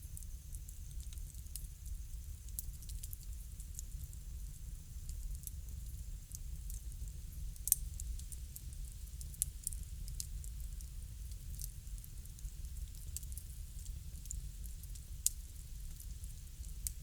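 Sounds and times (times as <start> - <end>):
bonfire crackling: 0.0 - 17.0
low rumble of fire: 0.0 - 17.0.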